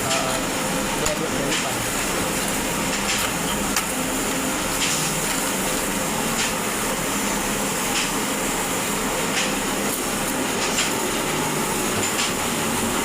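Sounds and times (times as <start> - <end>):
arc welding hiss and crackles: 0.0 - 13.0.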